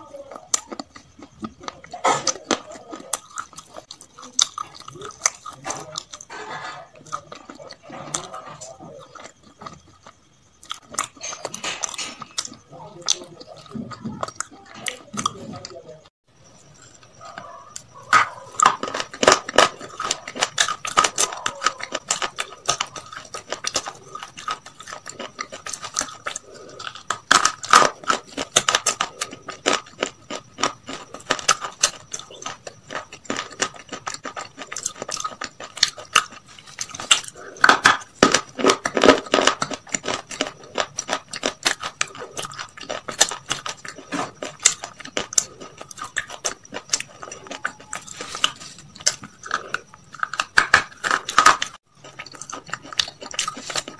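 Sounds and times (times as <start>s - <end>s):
chewing crispy chicken crunches: 0.0s - 15.8s, 16.7s - 53.9s.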